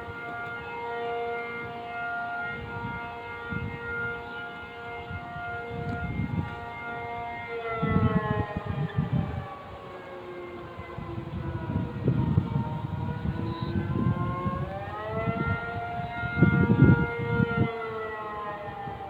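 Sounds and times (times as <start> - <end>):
air-raid siren wailing: 0.0 - 19.0.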